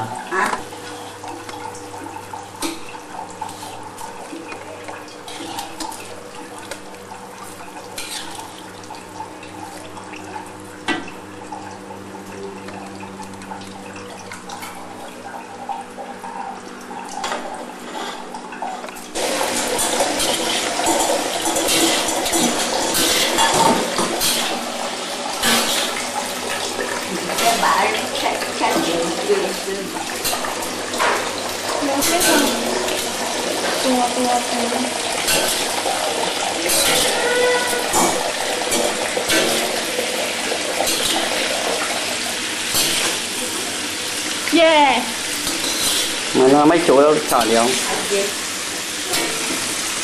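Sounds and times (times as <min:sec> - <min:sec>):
running water: 0:00.0 - 0:50.0.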